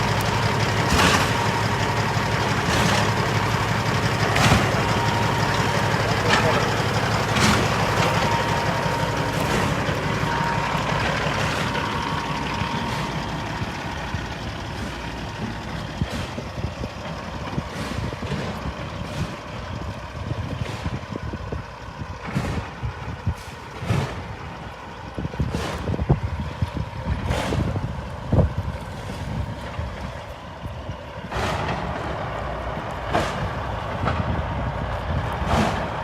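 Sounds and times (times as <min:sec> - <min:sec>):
heavy diesel machinery rumbling: 0:00.0 - 0:36.0.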